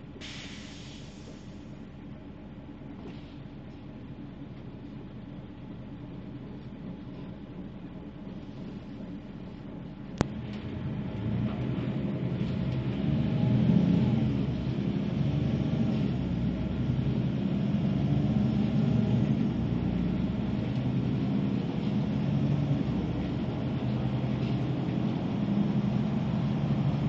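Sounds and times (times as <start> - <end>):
bus engine rumble: 0.0 - 27.0.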